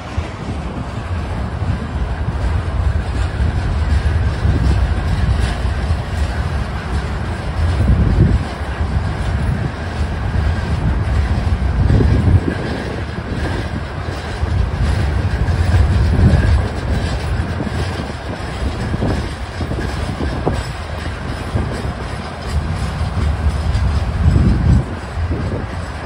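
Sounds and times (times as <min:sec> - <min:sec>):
freight train wheels rumbling and clacking: 0:00.0 - 0:26.0.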